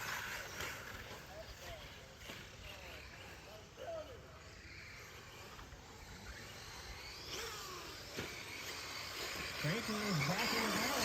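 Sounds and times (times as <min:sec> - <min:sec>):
rc truck motors whining: 0:00.0 - 0:11.0.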